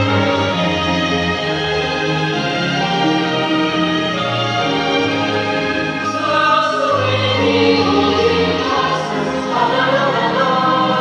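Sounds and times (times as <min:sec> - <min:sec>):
choir singing a carol: 0:00.0 - 0:11.0.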